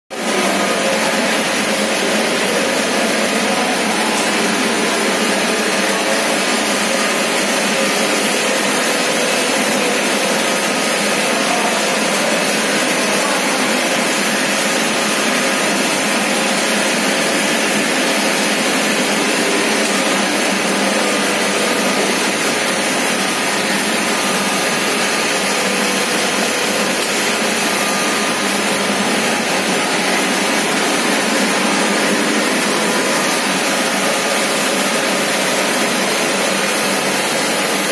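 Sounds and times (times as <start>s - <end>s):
mill machinery din: 0.1s - 37.9s.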